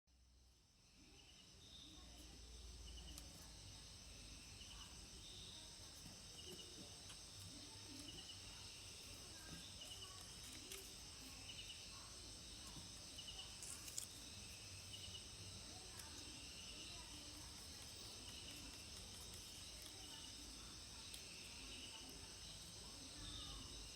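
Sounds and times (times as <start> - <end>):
insect trilling: 1.1 - 23.9.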